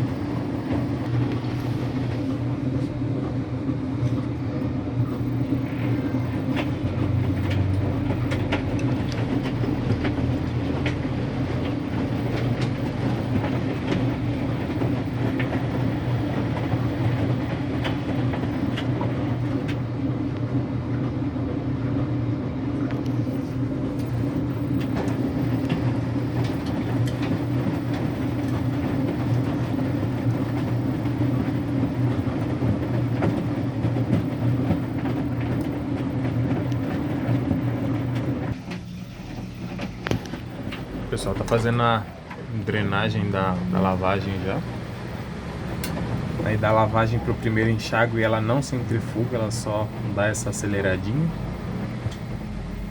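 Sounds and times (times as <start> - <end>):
washing machine motor and drum hum: 0.0 - 52.9.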